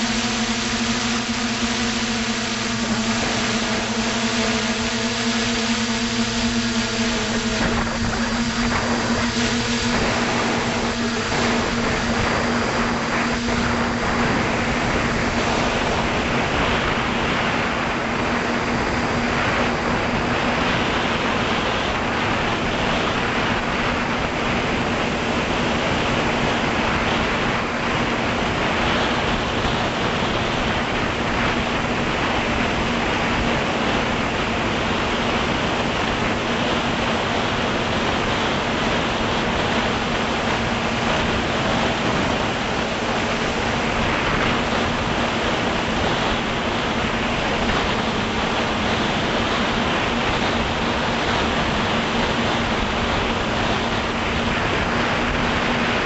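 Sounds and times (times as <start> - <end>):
drone motors humming: 0.0 - 56.0
propeller wash and wind: 0.0 - 56.0.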